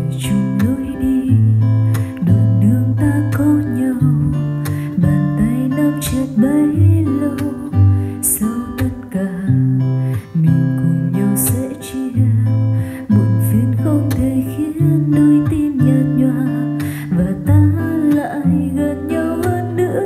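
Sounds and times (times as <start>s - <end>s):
song with guitar and singing: 0.0s - 20.0s.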